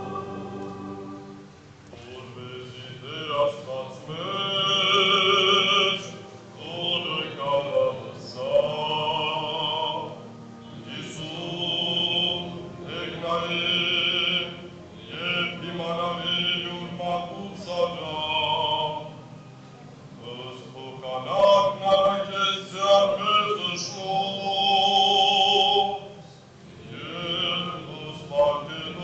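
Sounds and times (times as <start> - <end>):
men chanting a hymn: 2.0 - 19.4, 20.2 - 29.0.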